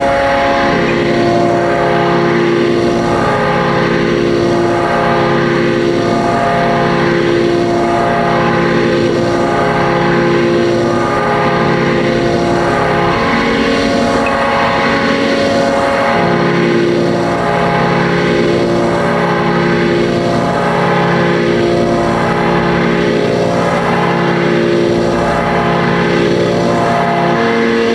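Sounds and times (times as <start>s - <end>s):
electronic drone music: 0.0s - 27.9s.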